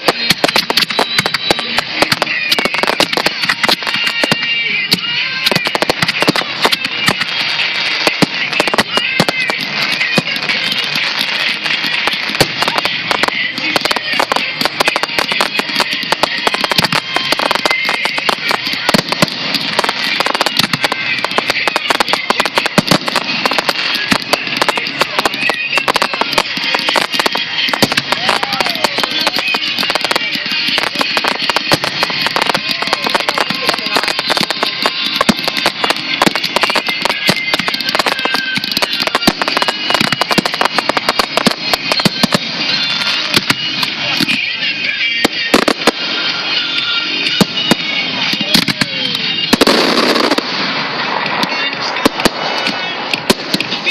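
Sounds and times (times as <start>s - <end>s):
fireworks bursting and crackling: 0.0s - 53.9s.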